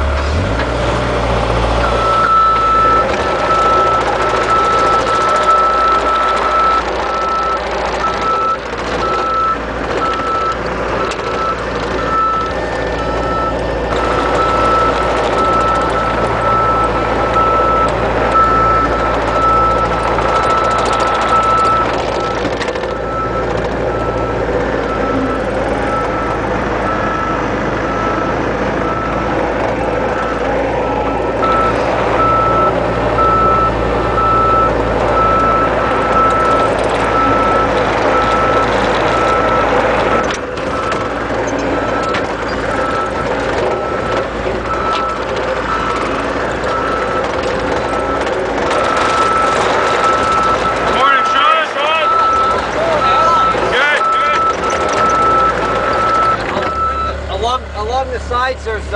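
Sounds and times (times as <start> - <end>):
excavator diesel engine running: 0.0 - 58.9
hydraulics: 0.0 - 58.9
back-up alarm beeping: 1.8 - 29.3, 29.9 - 57.5.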